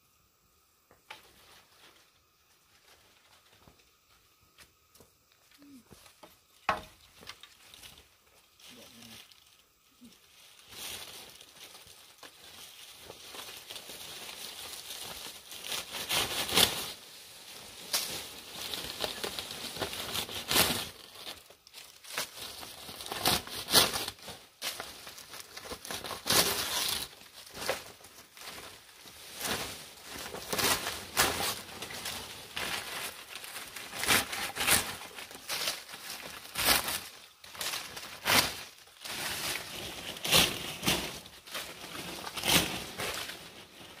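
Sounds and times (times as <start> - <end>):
palm leaves rustling and crackling: 0.9 - 44.0.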